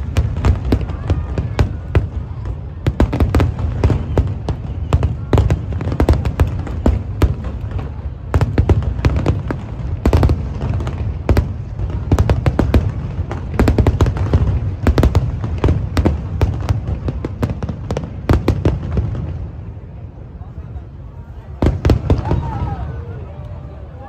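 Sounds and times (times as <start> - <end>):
fireworks sharp cracks: 0.0 - 19.6
fireworks low booms: 0.0 - 20.2, 21.6 - 22.9.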